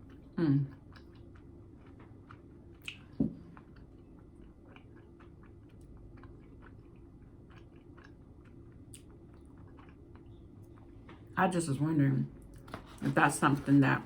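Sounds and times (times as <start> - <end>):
chewing pizza: 0.0 - 11.4.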